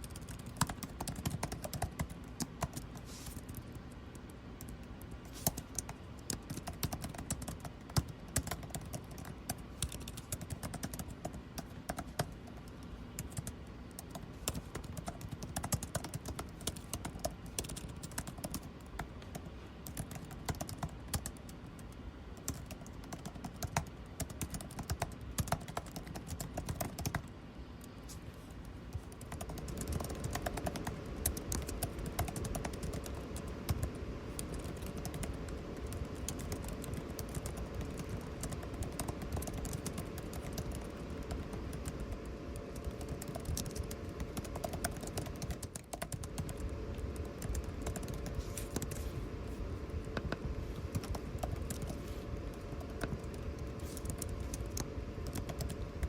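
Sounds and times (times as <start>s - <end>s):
typing on computer keyboard: 0.0s - 28.0s, 28.6s - 49.0s, 50.0s - 56.0s
air conditioning hum: 0.0s - 56.0s.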